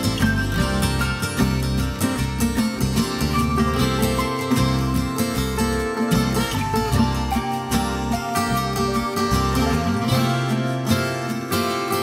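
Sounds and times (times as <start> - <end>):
steady bass line: 0.0 - 11.9
plucked acoustic guitar: 0.0 - 12.0.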